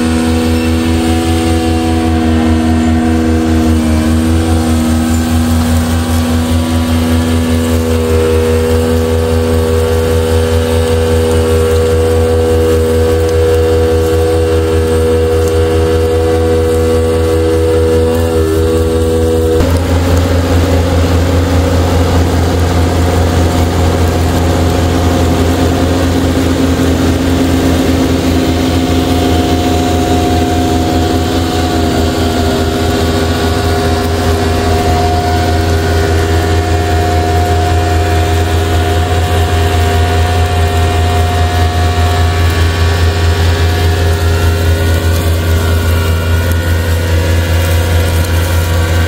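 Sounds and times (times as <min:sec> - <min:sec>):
high steady whine: 0:00.0 - 0:49.0
tractor diesel engine running: 0:00.0 - 0:49.0.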